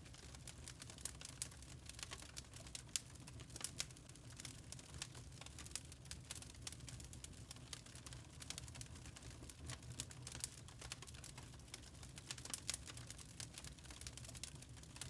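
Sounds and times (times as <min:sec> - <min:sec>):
charcoal crackling and popping: 0:00.0 - 0:15.0.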